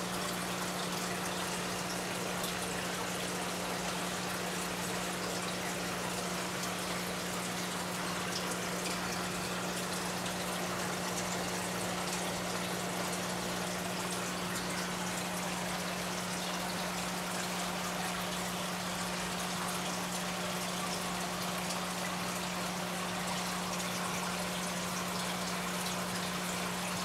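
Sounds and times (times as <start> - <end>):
water rushing in aquarium filter: 0.0 - 27.0.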